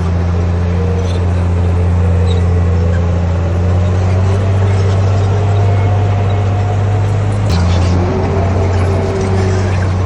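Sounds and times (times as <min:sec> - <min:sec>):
bulldozer diesel engine droning: 0:00.0 - 0:10.0.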